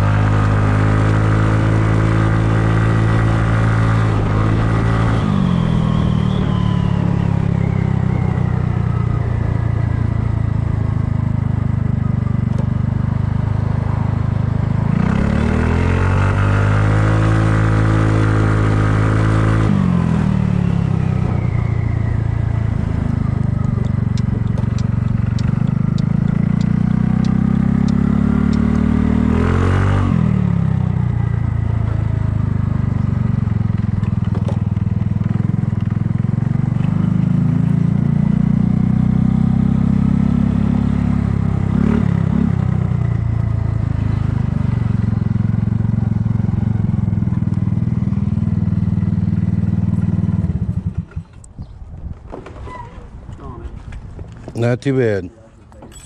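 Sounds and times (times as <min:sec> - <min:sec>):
scooter engine revving: 0:00.0 - 0:51.4.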